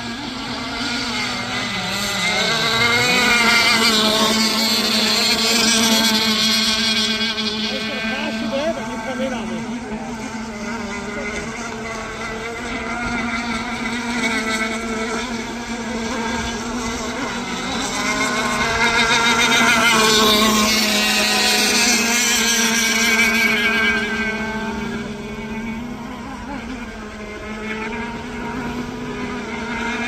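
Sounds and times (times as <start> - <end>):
rc boat motor drone: 0.0 - 30.0.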